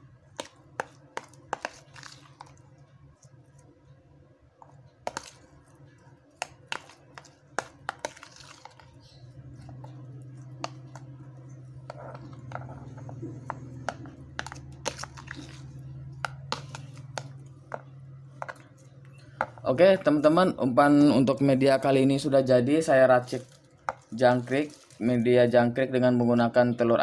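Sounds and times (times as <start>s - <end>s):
spoon stirring wet mix: 0.0s - 25.5s
low steady hum: 0.0s - 27.0s.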